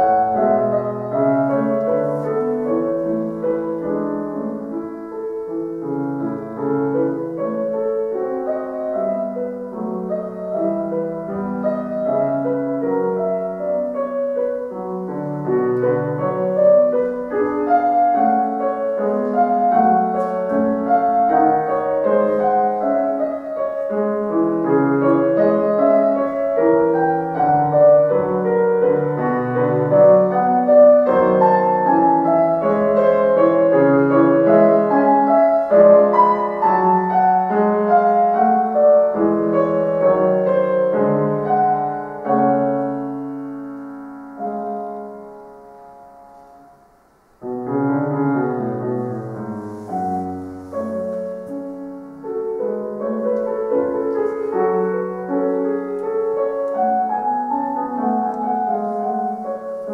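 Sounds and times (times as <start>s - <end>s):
classical piano piece: 0.0s - 59.9s.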